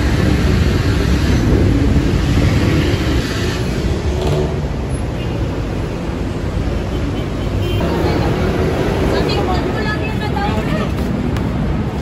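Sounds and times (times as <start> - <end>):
city road traffic rumble: 0.0 - 12.0.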